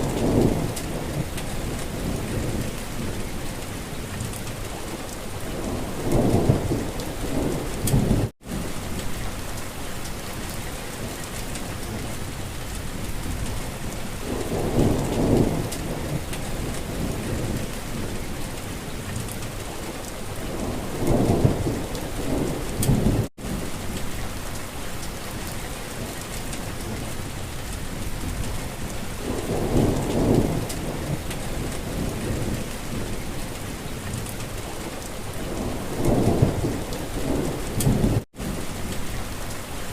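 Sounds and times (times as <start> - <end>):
distant thunder rumbles: 0.0 - 3.6, 4.2 - 9.5, 13.0 - 19.0, 19.6 - 24.5, 25.3 - 39.6
heavy rain: 0.0 - 39.9.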